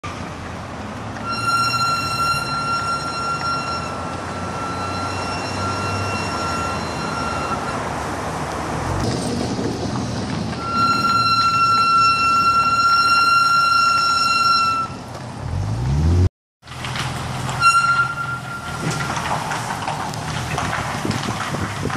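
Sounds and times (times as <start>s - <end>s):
road noise: 0.0s - 21.9s
brake pads squealing: 0.1s - 21.9s.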